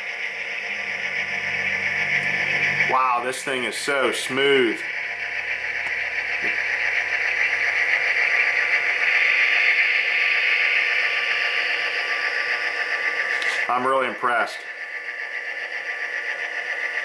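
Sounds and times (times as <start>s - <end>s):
thin diesel engine drone: 0.0s - 17.0s.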